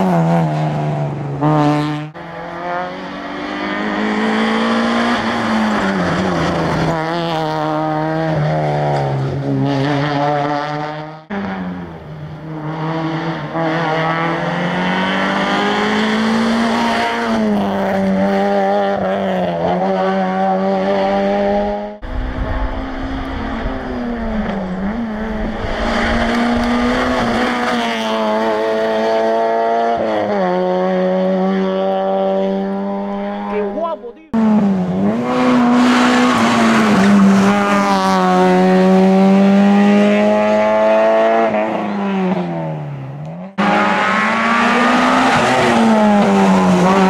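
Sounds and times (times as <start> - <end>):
rally car engine accelerating: 0.0 - 47.0.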